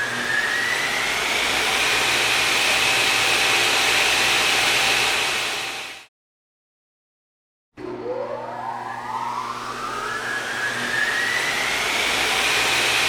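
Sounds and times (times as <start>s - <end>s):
machine whine rising: 0.0s - 6.1s, 7.8s - 13.0s.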